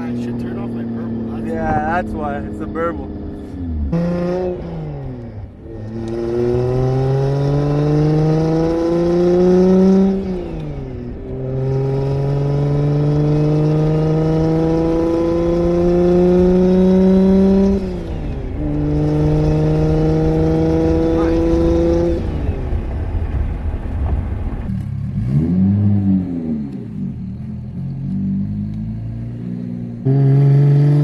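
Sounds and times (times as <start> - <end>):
car engine accelerating through gears: 0.0 - 31.0.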